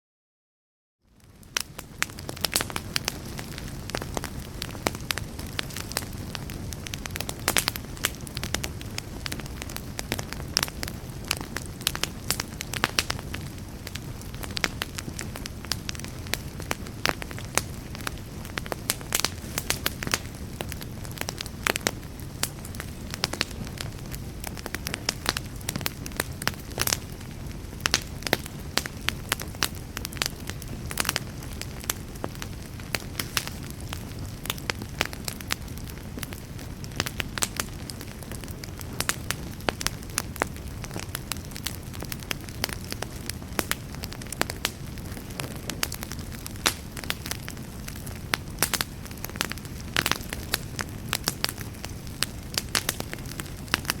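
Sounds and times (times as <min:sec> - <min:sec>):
wood fire crackling: 0:01.1 - 0:54.0.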